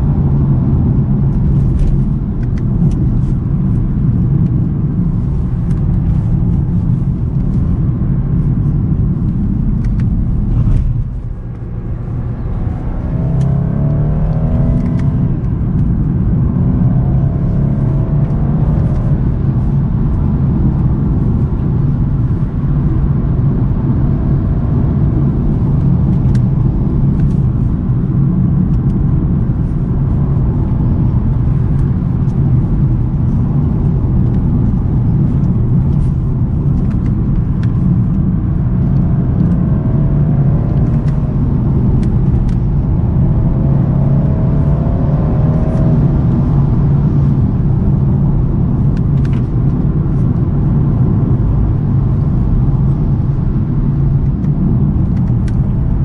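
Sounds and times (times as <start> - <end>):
car exhaust drone: 0.0 - 56.0.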